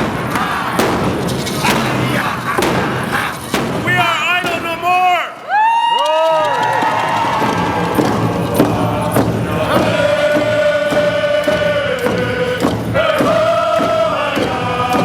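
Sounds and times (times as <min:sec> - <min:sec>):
voices singing: 0:00.0 - 0:05.1, 0:06.6 - 0:15.0
steady drum beat: 0:00.0 - 0:05.6, 0:06.4 - 0:15.0.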